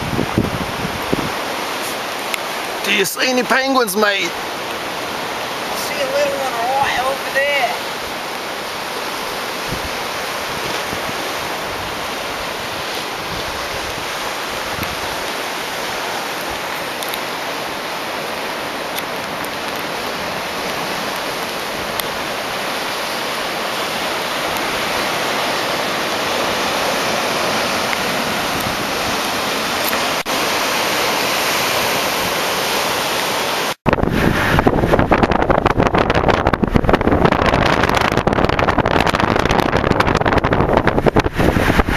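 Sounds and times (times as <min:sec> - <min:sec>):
ocean surf washing over rocks: 0:00.0 - 0:41.9
wind on microphone: 0:00.0 - 0:41.9.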